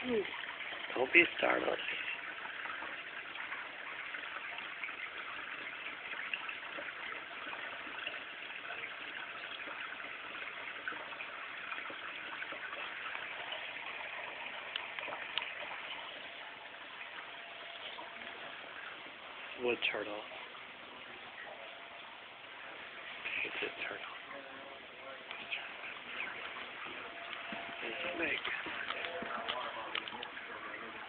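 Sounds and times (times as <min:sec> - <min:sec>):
running water: 0:00.0 - 0:31.0.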